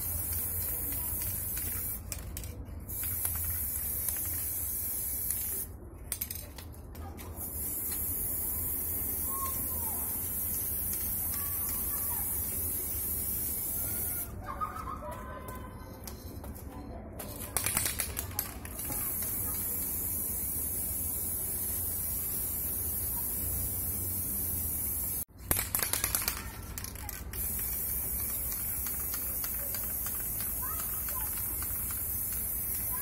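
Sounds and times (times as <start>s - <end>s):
spray paint can hissing: 0.0s - 6.3s, 7.4s - 14.3s, 17.5s - 33.0s.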